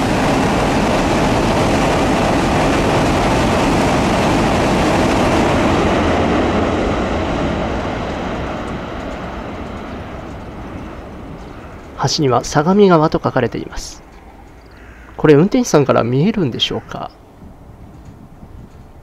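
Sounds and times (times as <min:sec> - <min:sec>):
high-speed train rushing past: 0:00.0 - 0:19.0.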